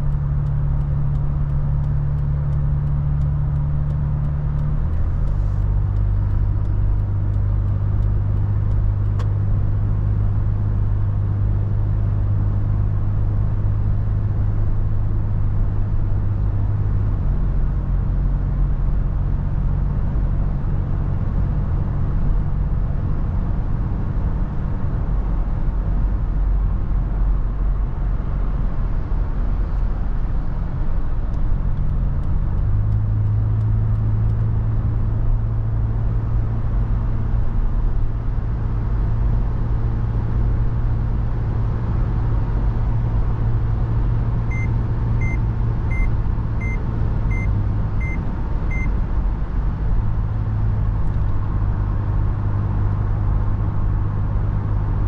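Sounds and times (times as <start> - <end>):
car engine droning: 0.0 - 55.0
road noise: 0.0 - 55.0.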